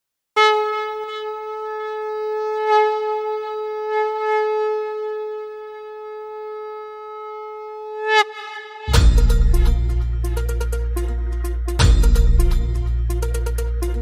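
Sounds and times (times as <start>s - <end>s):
conch shell blown: 0.4s - 14.0s.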